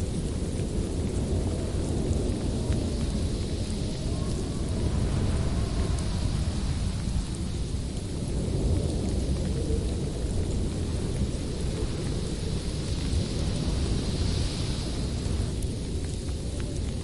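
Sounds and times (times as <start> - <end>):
howling wind: 0.0 - 17.0.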